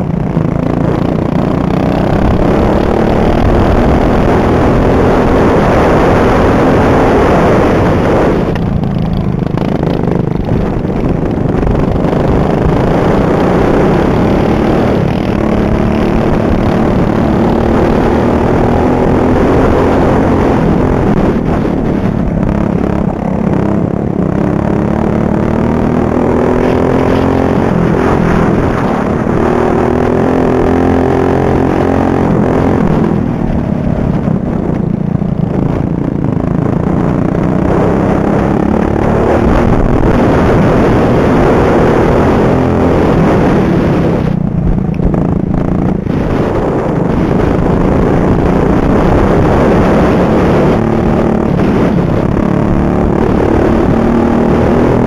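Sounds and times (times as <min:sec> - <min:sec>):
lawnmower engine at high revs: 0:00.0 - 0:55.0.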